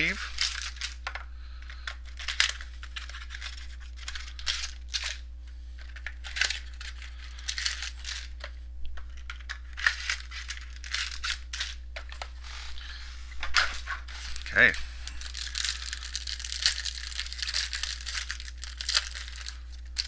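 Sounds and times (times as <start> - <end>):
packaging crinkling and tearing: 0.0 - 5.2, 5.8 - 20.0.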